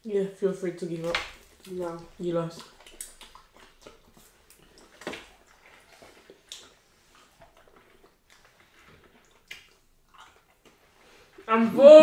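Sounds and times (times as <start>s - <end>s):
wet eating by hand: 0.8s - 11.5s.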